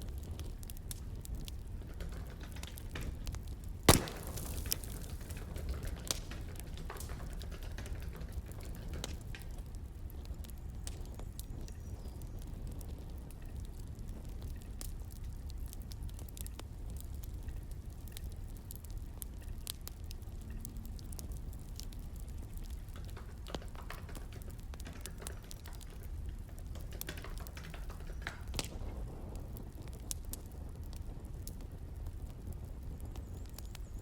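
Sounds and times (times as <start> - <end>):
fire low rumble: 0.0 - 34.0
wood fire crackling and popping: 0.0 - 34.0.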